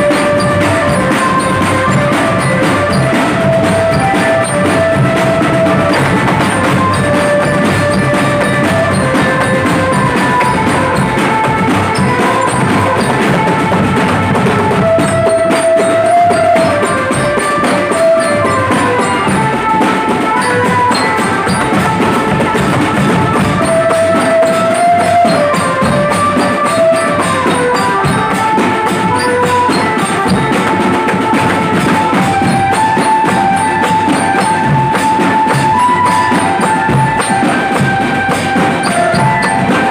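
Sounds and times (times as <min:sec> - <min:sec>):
drum band playing: 0:00.0 - 0:39.9
melody of held notes: 0:00.0 - 0:39.9.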